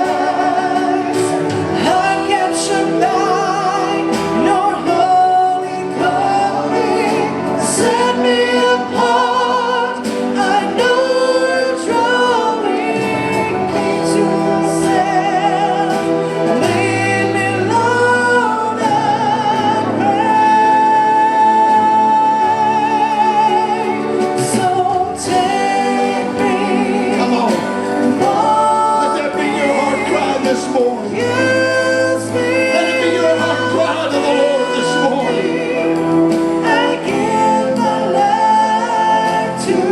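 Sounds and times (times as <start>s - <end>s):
gospel singing with accompaniment: 0.0s - 39.9s.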